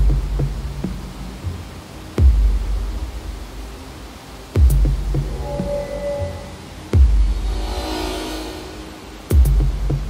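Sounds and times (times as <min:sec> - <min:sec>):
slow electronic music: 0:00.0 - 0:10.0
steady hiss: 0:00.0 - 0:10.0.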